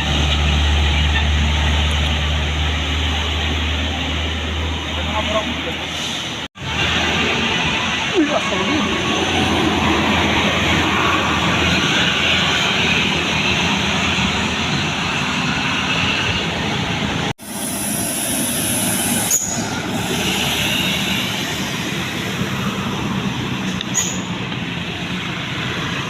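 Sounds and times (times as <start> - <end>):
heavy traffic road noise: 0.0 - 26.0.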